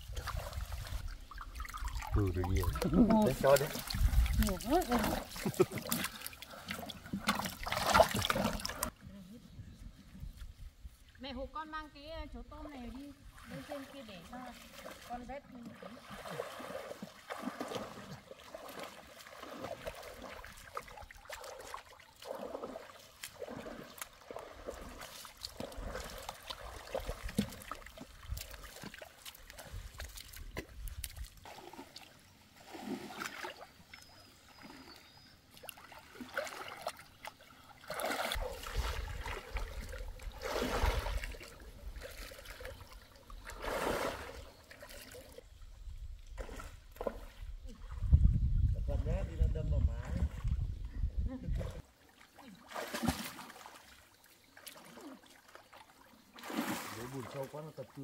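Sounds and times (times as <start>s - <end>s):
water splashing and sloshing: 0.0s - 9.2s, 10.3s - 58.0s.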